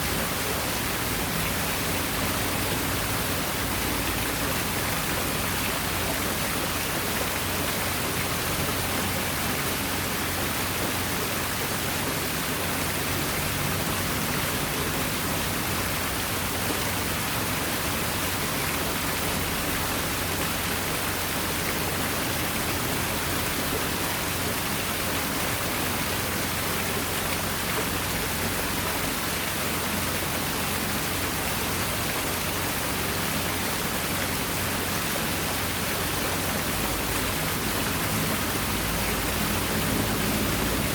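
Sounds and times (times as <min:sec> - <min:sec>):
water falling over rocks: 0:00.0 - 0:40.9.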